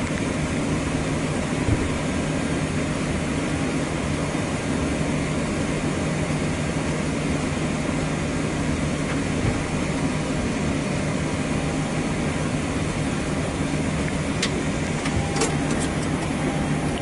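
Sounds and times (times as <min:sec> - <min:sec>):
aircraft cockpit hum and rush: 0:00.0 - 0:17.0.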